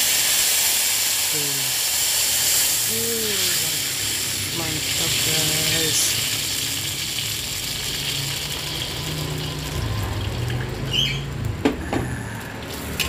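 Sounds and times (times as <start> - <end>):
liquid pouring into pan: 0.1 - 10.9.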